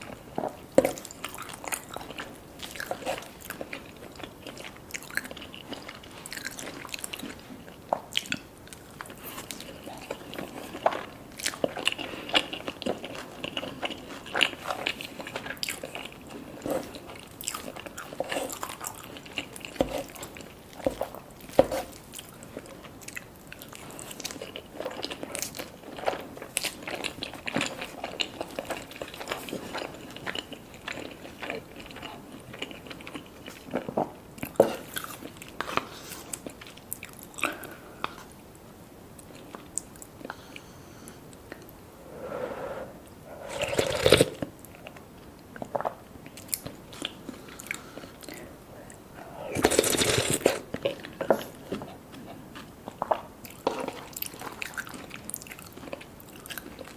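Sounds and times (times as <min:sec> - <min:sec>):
person crunching and chewing food: 0:00.0 - 0:38.3, 0:43.2 - 0:56.9.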